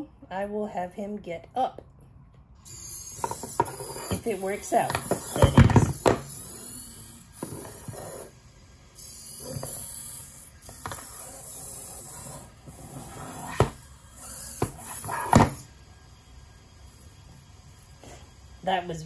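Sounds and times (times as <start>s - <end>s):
toy robot servos whirring: 2.6s - 19.0s.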